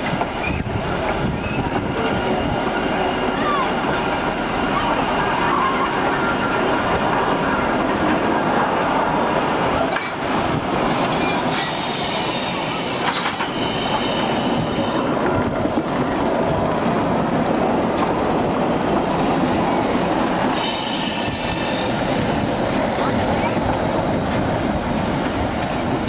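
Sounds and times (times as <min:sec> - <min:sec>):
steam locomotive hissing: 0:00.0 - 0:15.8, 0:16.4 - 0:26.0.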